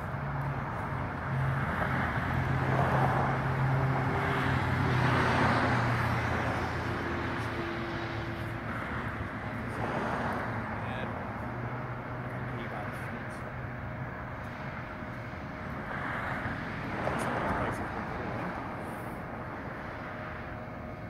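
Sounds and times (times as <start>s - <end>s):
steady low hum: 0.0s - 21.0s
vehicle passing rumble: 0.0s - 21.0s.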